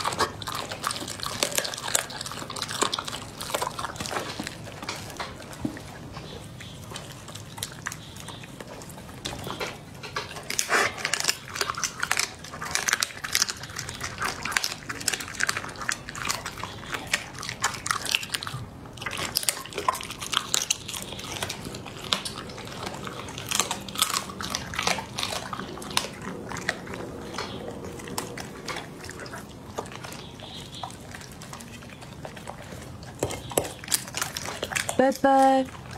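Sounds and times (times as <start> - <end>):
dog chewing and crunching food: 0.0 - 35.9.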